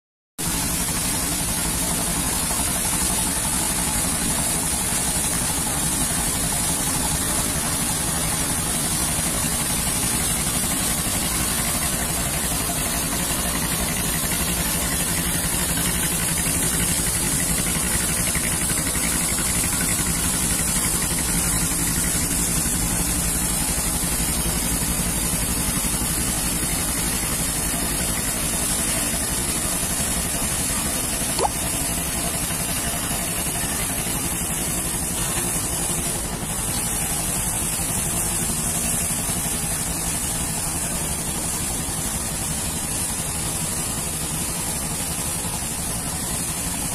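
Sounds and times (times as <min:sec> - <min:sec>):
coal pouring rushing hiss: 0:00.4 - 0:46.9.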